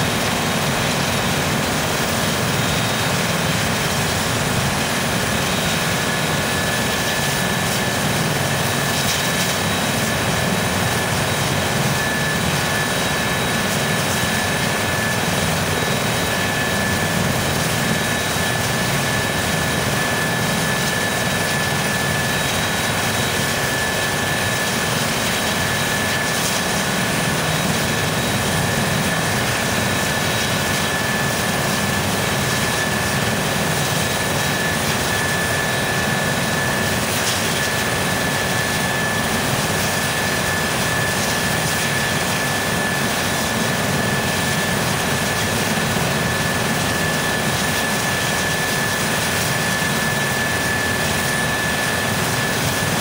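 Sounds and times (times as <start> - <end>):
helicopter rotor rumble: 0.0 - 53.0
helicopter turbine whine: 0.0 - 53.0.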